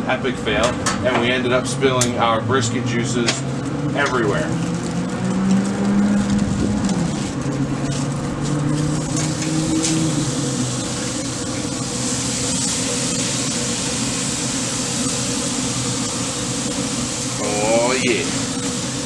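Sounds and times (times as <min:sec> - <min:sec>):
low drone: 0:01.5 - 0:19.0.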